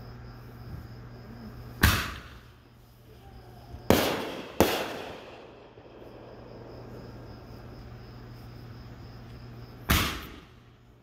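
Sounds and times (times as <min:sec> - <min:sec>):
fireworks bursting: 0:01.8 - 0:10.7.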